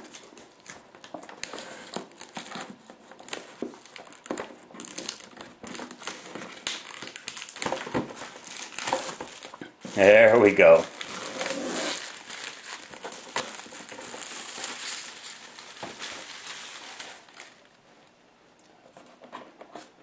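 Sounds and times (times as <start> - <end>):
plastic shrink wrap crinkling: 0.0 - 18.1.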